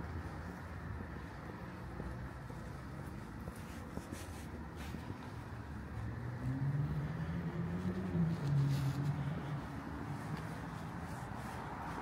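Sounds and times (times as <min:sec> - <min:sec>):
approaching vehicle engine hum: 0:00.0 - 0:12.0
rumble of passing cars: 0:00.0 - 0:12.0.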